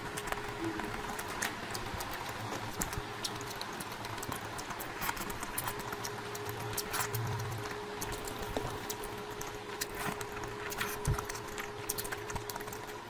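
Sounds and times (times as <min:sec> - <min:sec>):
faint steady hum: 0:00.0 - 0:13.0
wet chewing sounds: 0:00.0 - 0:13.0.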